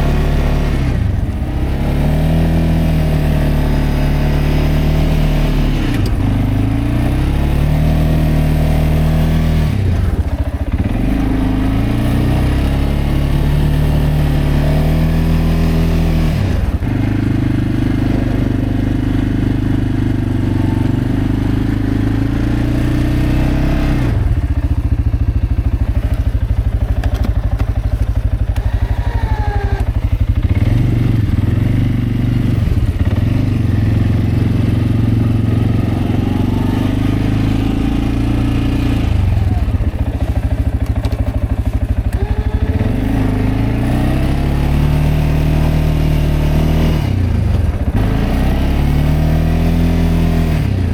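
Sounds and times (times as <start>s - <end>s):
atv engine revving under load: 0.0s - 50.9s.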